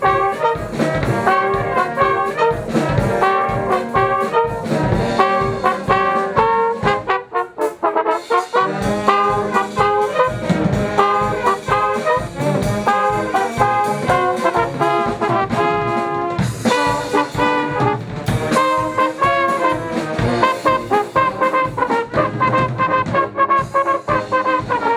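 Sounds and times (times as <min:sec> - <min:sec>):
trombones and trumpets: 0:00.0 - 0:24.9
wind band playing: 0:00.0 - 0:24.9.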